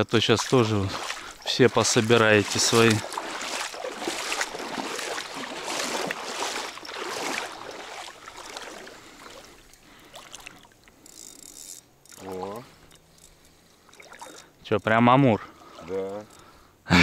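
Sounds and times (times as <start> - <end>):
water sloshing and splashing: 0.0 - 14.6, 15.4 - 16.6.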